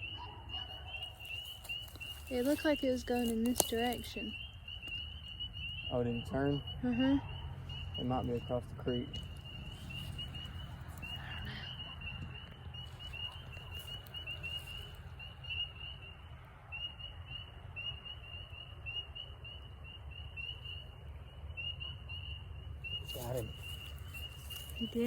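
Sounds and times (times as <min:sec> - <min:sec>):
spring peepers calling: 0:00.0 - 0:25.0.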